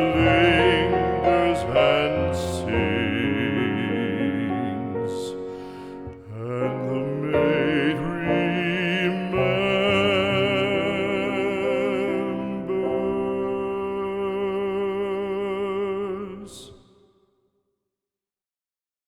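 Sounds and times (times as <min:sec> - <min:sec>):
classical accompaniment: 0:00.0 - 0:16.8.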